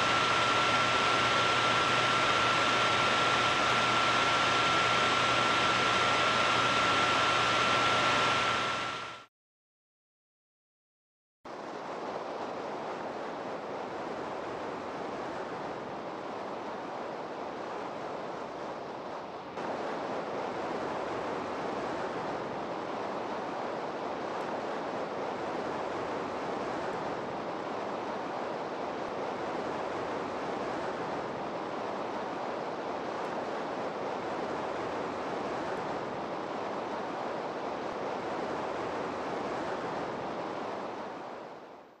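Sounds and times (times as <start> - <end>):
steady rushing noise: 0.0 - 9.3, 11.5 - 42.0.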